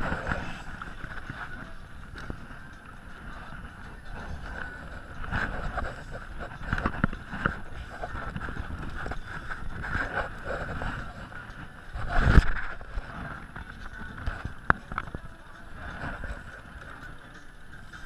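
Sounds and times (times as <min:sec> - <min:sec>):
choppy water against hull: 0:00.0 - 0:18.0
wind buffeting microphone: 0:00.0 - 0:18.0.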